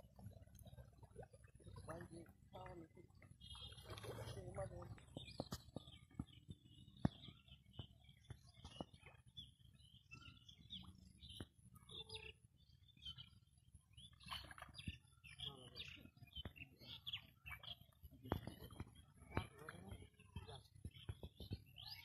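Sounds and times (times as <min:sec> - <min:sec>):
bird chirps: 0:00.0 - 0:22.0.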